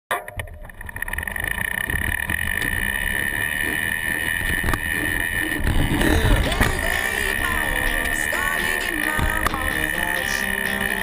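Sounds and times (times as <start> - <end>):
high whine: 0.1 - 11.0.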